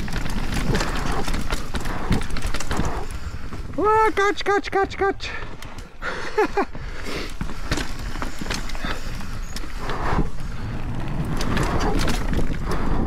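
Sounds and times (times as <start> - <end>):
bike clicks and rattles: 0.0 - 13.0
tyres and wind rushing: 0.0 - 13.0.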